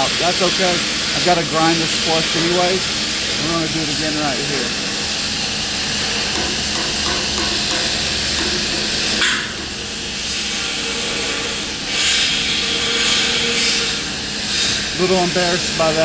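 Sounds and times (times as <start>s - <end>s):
welding arc crackling hiss: 0.0s - 16.0s.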